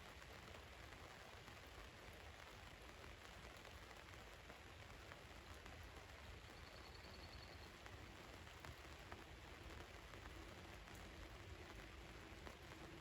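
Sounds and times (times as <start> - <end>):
rain on a van: 0.0 - 13.0.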